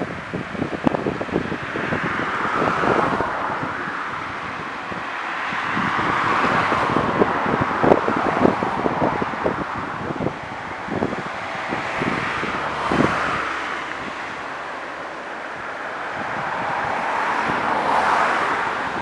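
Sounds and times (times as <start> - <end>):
broad rushing noise: 0.0 - 19.0
wind buffeting microphone: 0.0 - 19.0.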